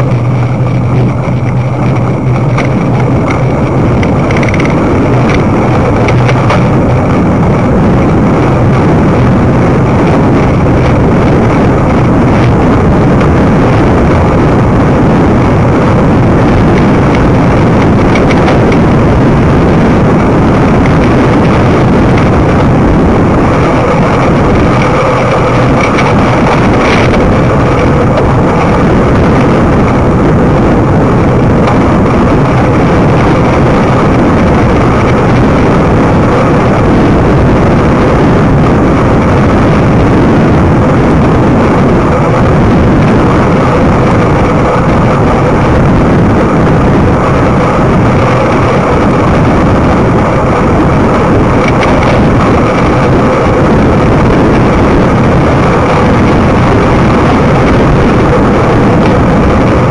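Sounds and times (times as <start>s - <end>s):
bicycle tyre road noise: 0.0s - 59.9s
wind rushing over microphone: 0.0s - 59.9s.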